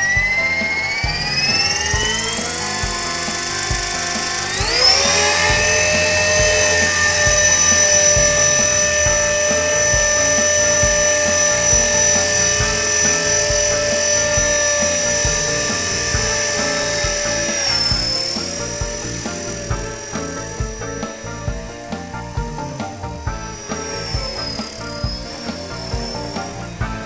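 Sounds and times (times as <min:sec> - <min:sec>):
rc helicopter high-pitched whine: 0:00.0 - 0:27.0.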